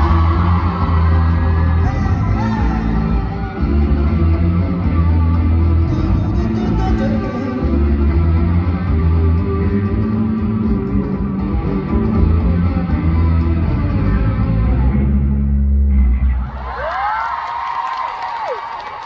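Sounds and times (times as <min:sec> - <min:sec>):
live rock band: 0:00.0 - 0:15.6
heavy bass line: 0:00.0 - 0:16.6
electric guitar: 0:00.0 - 0:16.8.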